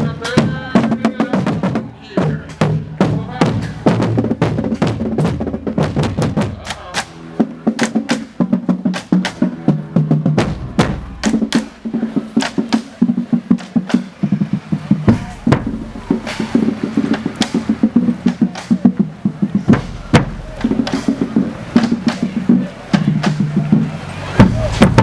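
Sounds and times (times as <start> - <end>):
drumline beating: 0.0 - 25.0.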